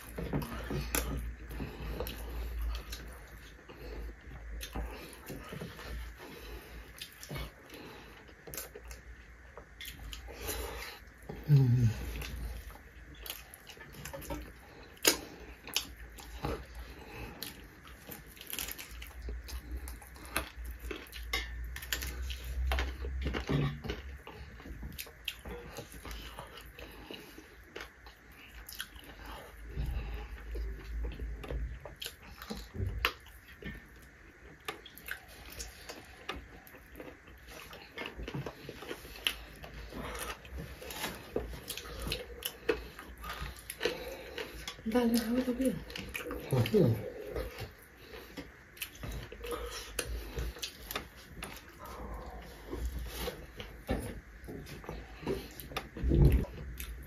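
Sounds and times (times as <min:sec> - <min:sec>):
close-up chewing and lip-smacking: 0:00.0 - 0:57.0.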